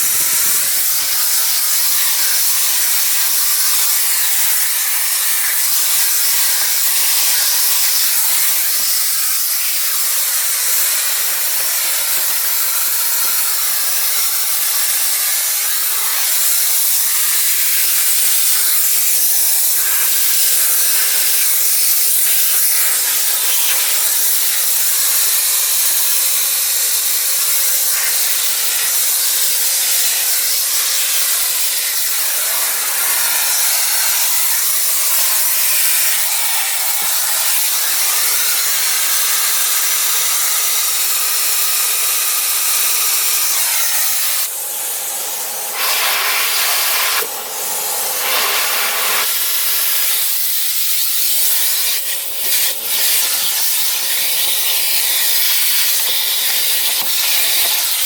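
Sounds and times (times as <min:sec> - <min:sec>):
vacuum cleaner suction hiss: 0:00.0 - 0:58.0.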